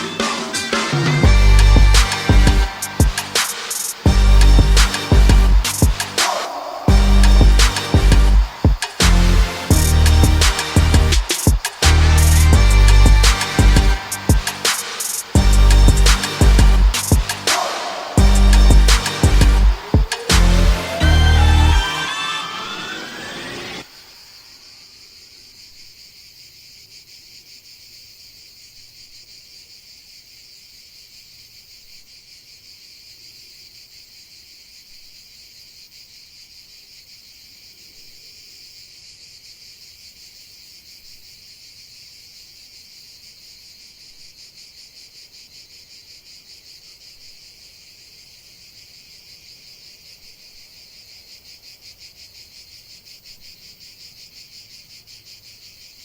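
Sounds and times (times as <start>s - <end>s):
crickets trilling: 2.7s - 11.8s, 12.8s - 20.3s, 23.8s - 56.0s.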